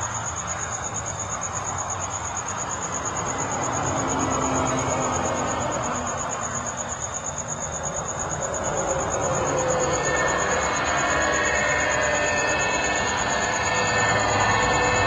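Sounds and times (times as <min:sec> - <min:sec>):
cricket chirping: 0:00.0 - 0:15.0
steady rushing noise: 0:02.8 - 0:15.0.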